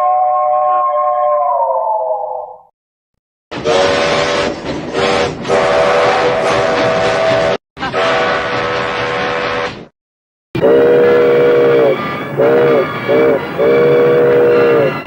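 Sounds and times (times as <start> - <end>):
steam locomotive whistle: 0.0 - 1.5, 3.5 - 9.8, 10.6 - 15.0.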